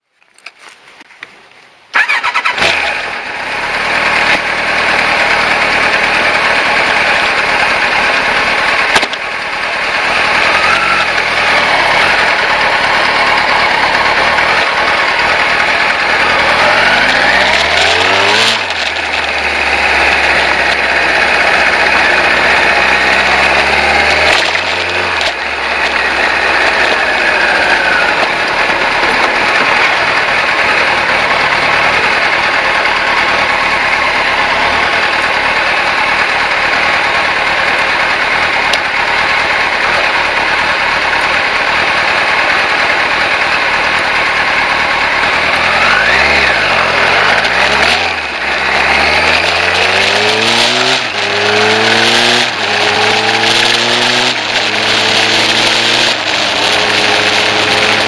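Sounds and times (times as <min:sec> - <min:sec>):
motorcycle engine revving: 0:02.0 - 0:58.0.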